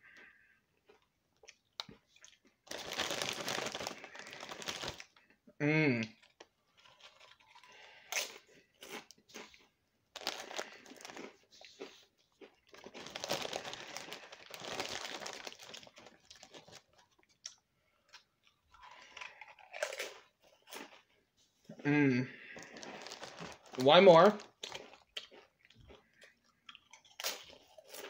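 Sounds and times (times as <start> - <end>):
crunching and chewing chips: 0.0 - 5.4, 6.0 - 28.0.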